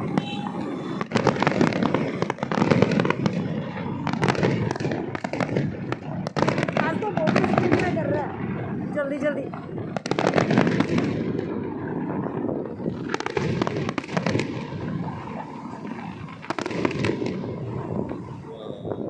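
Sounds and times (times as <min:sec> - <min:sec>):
fireworks bangs and crackling: 0:00.0 - 0:19.0
rumble of firework bursts: 0:00.0 - 0:19.0.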